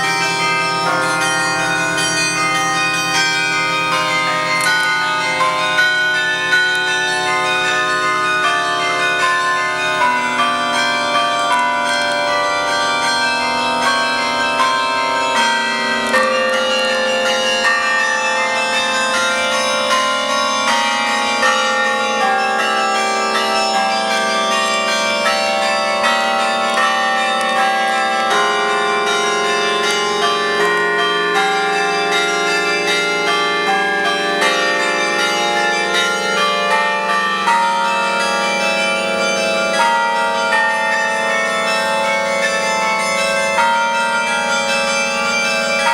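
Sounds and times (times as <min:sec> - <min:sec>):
tower bells ringing: 0:00.0 - 0:45.9.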